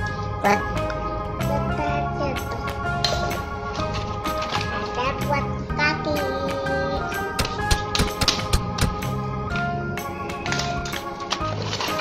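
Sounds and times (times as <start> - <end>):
background music with regular beat: 0.0 - 12.0.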